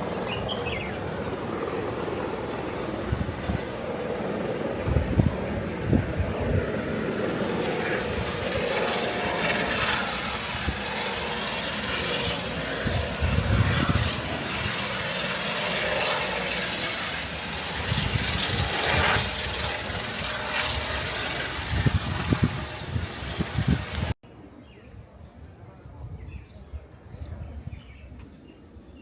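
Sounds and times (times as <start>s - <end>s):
aircraft engine drone: 0.0s - 24.1s
wind buffeting microphone: 0.0s - 24.2s, 24.8s - 29.0s.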